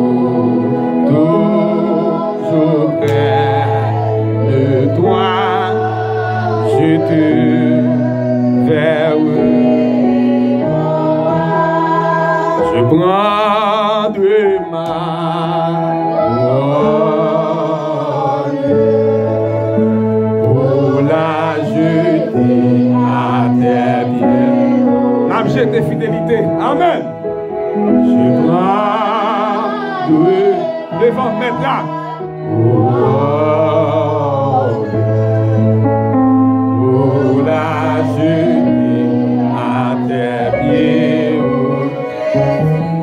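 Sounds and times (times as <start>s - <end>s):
man singing into microphone: 0.0s - 27.1s, 27.8s - 35.9s, 36.7s - 43.0s
sustained accompaniment chords: 0.0s - 43.0s.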